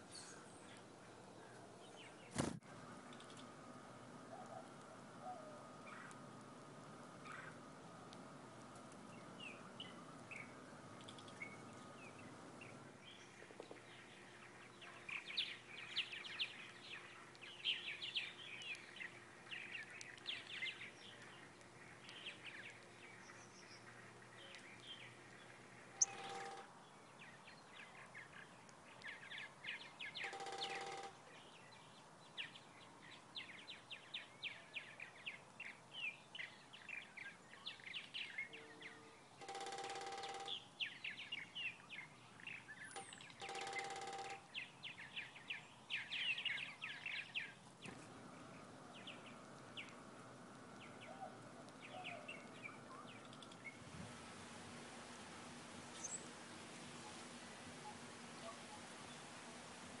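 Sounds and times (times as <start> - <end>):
small songbirds chirping: 0.0 - 60.0.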